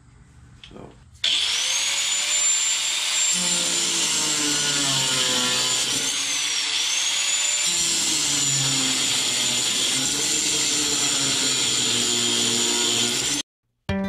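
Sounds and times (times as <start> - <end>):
angle grinder cutting metal: 1.2 - 13.4.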